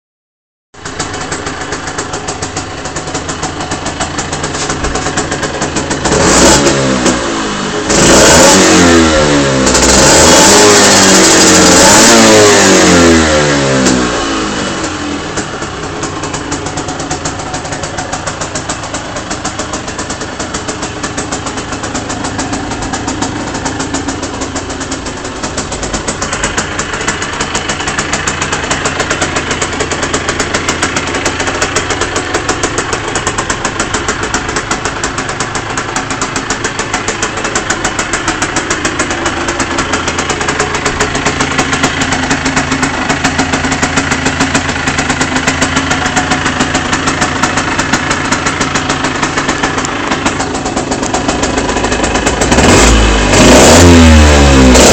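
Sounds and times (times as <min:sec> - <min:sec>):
motorcycle engine idling and revving: 0:00.8 - 0:54.9.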